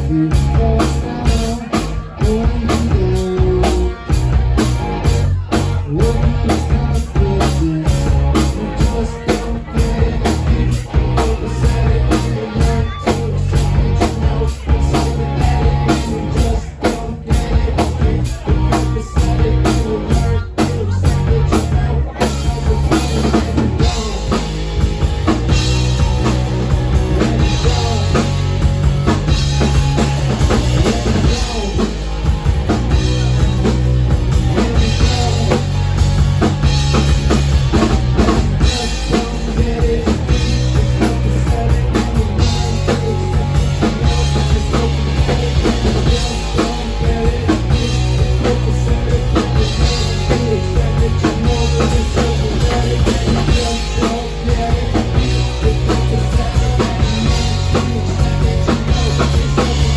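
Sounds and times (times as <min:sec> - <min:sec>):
bass drum and snare beat: 0:00.0 - 0:59.9
electric guitar: 0:00.0 - 0:59.9
man singing: 0:00.0 - 0:59.9.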